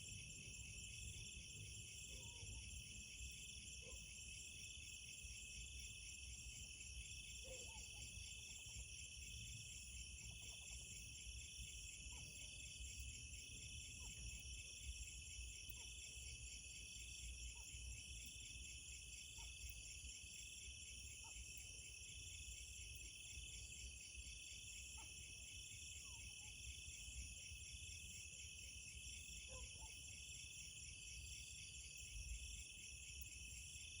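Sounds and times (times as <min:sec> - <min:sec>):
faint short insect calls: 0:00.0 - 0:34.0.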